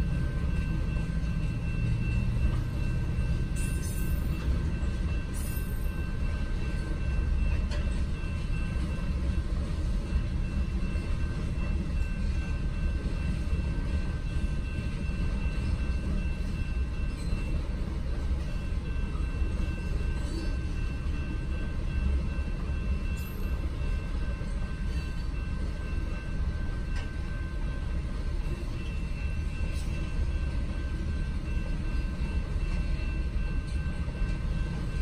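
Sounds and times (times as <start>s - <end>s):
muffled train wheels rumbling: 0.0s - 35.0s.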